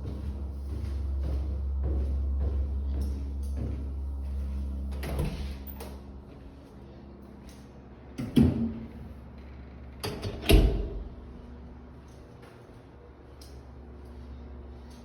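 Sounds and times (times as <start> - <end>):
low vibrating hum: 0.0 - 15.0.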